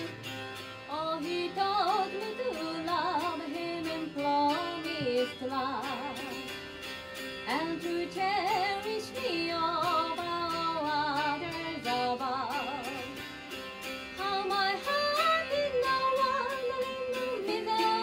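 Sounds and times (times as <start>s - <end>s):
woman singing with vibrato: 0.0s - 6.6s, 7.4s - 13.4s, 14.2s - 18.0s
strummed dulcimer: 0.0s - 18.0s.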